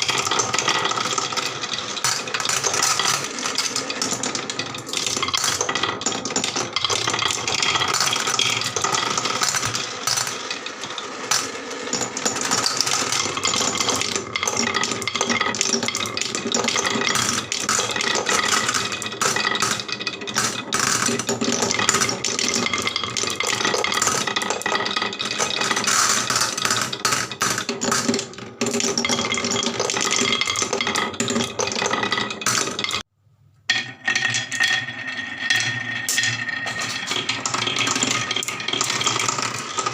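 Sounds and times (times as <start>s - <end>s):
marbles rattling down wooden run: 0.0s - 33.1s, 33.7s - 39.9s.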